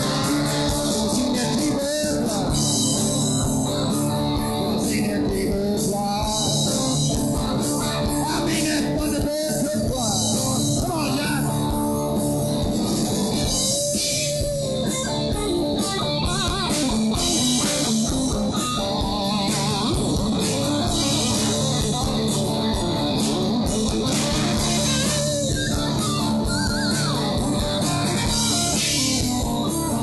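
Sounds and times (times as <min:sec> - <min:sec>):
drum kit: 0:00.0 - 0:30.0
electric guitar lead with bent notes: 0:00.0 - 0:30.0
rhythm guitar: 0:00.0 - 0:30.0.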